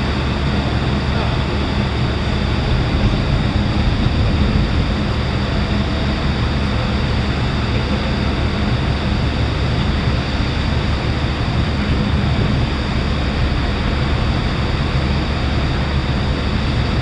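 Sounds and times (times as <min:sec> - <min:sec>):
continuous noisy wash: 0:00.0 - 0:17.0
low engine rumble: 0:00.0 - 0:17.0.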